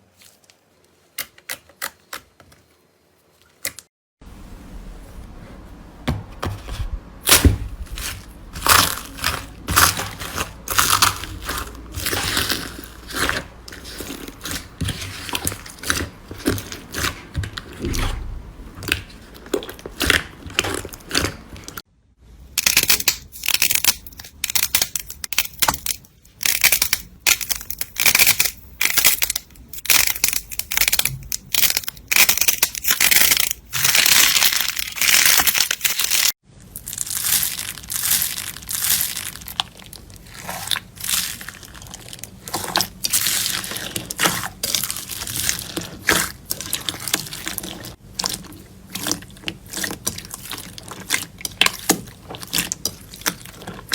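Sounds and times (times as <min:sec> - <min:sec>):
hands crunching slime: 0:07.2 - 0:21.8, 0:22.6 - 0:53.9.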